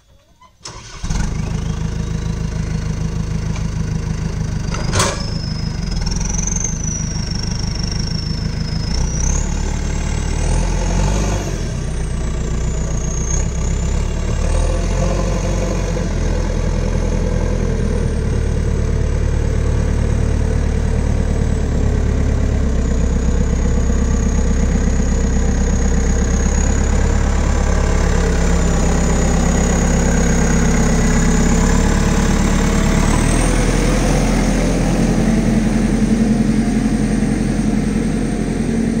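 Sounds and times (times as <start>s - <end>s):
diesel engine revving: 0.6s - 39.0s.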